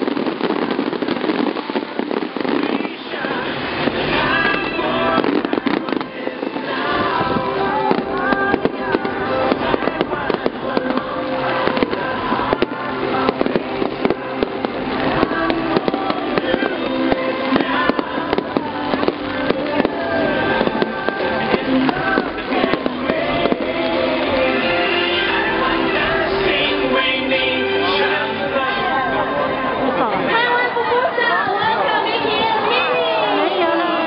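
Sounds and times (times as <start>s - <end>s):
fireworks bangs and pops: 0.0s - 28.3s
loud music with melody: 0.0s - 33.9s.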